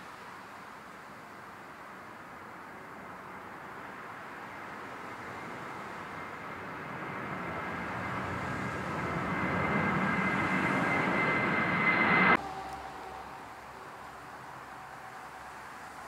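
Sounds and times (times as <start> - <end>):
distant jet engine: 0.0 - 16.0
jet engine whine: 0.0 - 16.0
jet airliner taking off: 2.4 - 16.0.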